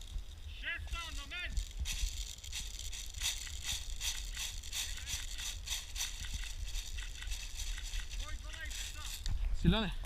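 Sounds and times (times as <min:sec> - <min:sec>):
dry brush and leaves crunching: 0:00.0 - 0:09.9.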